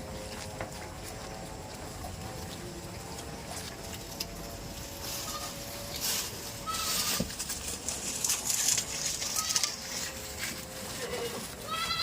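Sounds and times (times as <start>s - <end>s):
goats shuffling and rustling: 0.0s - 12.0s.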